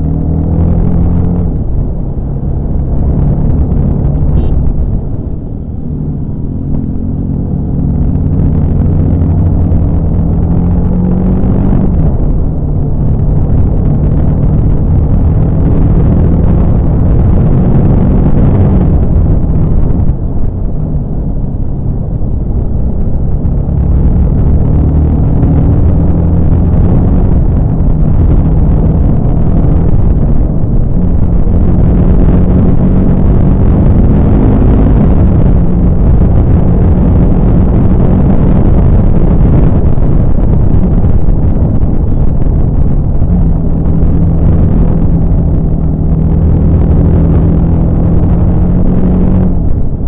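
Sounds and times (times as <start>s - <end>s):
motorcycle engine running: 0.0s - 50.0s
wind rumble on microphone: 0.0s - 50.0s.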